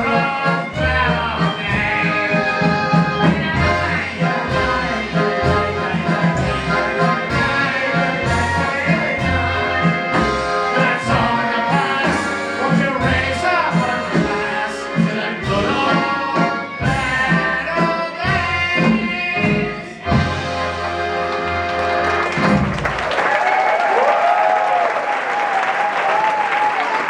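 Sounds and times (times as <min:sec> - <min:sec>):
accordion: 0:00.0 - 0:22.8
klezmer band playing: 0:00.0 - 0:23.1.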